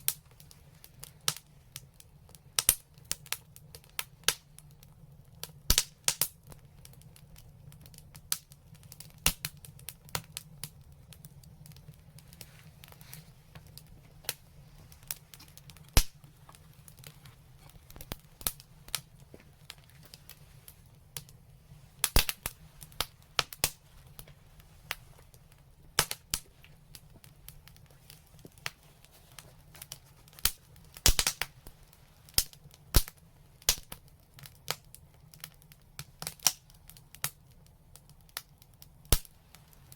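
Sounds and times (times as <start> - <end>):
faint low rumble: 0.0 - 36.0
wood fire crackling and popping: 0.0 - 39.9.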